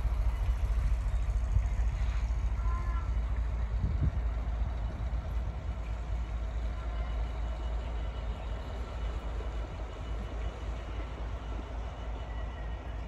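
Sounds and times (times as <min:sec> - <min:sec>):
distant train rumbling: 0:00.0 - 0:13.0.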